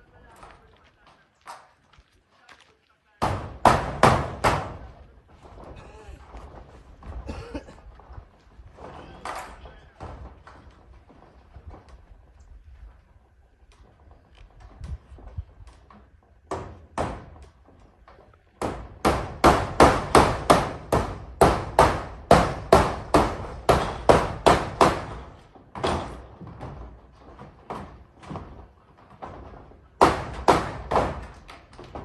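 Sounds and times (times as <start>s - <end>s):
hammer blows on metal roofing: 3.2s - 12.4s, 13.2s - 32.0s.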